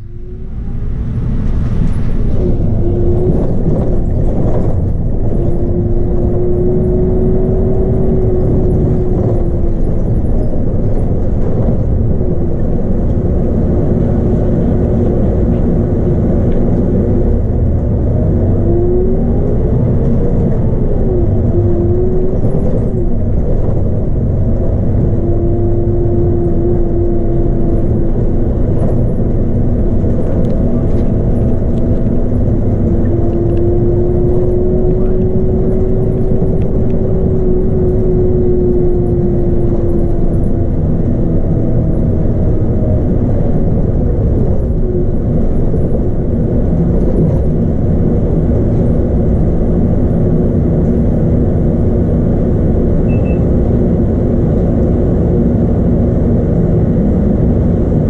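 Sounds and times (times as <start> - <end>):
bus diesel engine rumble: 0.0 - 58.0
drivetrain whine: 0.0 - 58.0.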